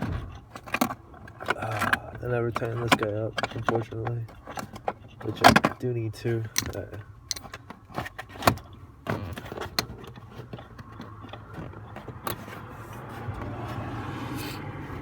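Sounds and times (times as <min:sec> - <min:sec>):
hand tools and parts clicking: 0:00.0 - 0:13.8.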